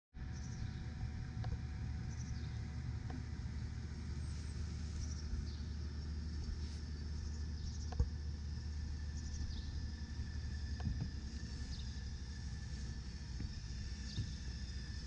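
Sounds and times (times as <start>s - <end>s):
low rumble: 0.2s - 15.0s.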